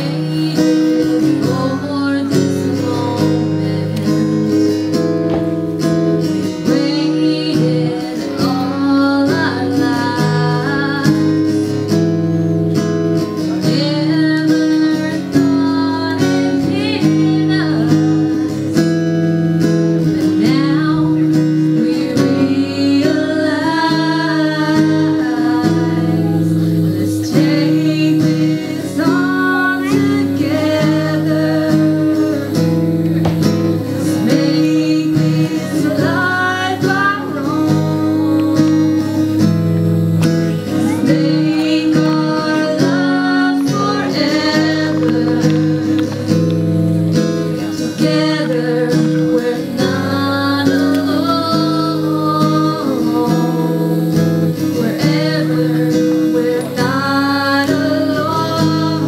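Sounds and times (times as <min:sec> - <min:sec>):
acoustic guitar chords: 0:00.0 - 0:59.0
woman singing slow song: 0:00.0 - 0:59.0.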